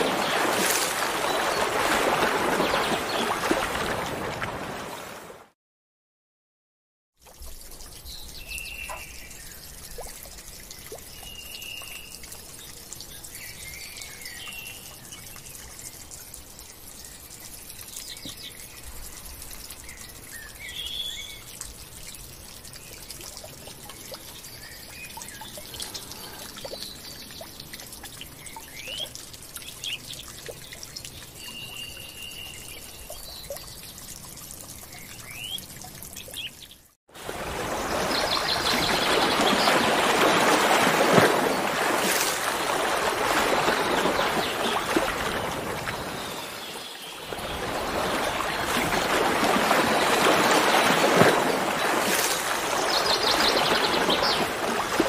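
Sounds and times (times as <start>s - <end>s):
water trickling and splashing: 0.0s - 5.6s, 7.2s - 55.0s.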